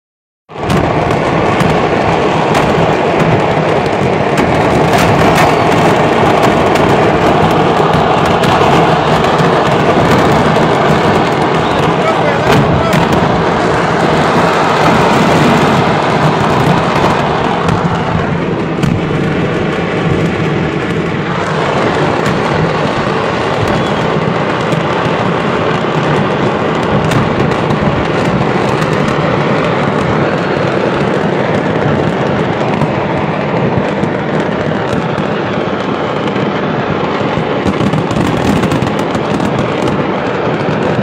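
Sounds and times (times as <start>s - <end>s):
fireworks bangs: 0.5s - 41.0s
fireworks crackling: 0.5s - 41.0s.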